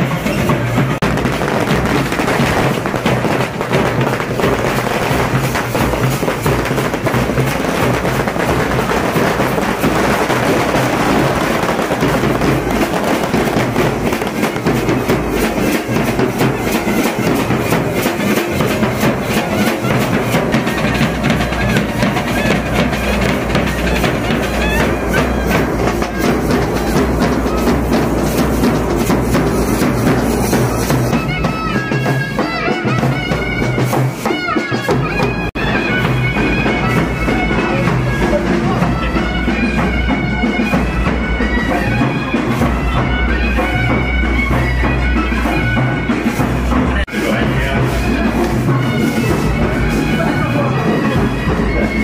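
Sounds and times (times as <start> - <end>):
bass and snare drums beating: 0.0 - 52.0
clarinet melody: 7.6 - 52.0.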